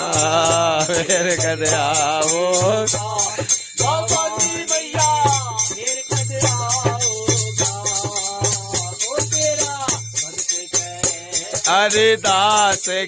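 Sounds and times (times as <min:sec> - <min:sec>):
jingling tongs shaken in a beat: 0:00.0 - 0:13.0
men singing devotional song: 0:00.0 - 0:13.0.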